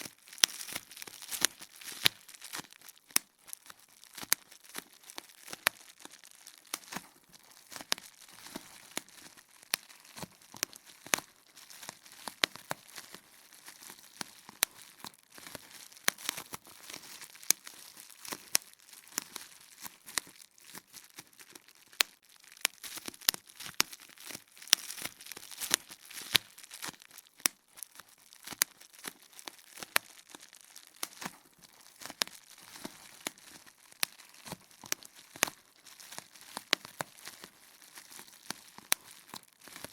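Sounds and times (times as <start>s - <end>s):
bubble wrap popping: 0.0s - 39.9s
plastic sheet crinkling: 0.0s - 39.9s.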